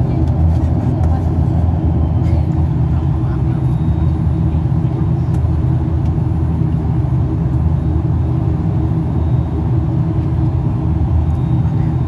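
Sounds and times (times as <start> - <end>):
airliner cabin drone: 0.0 - 12.0.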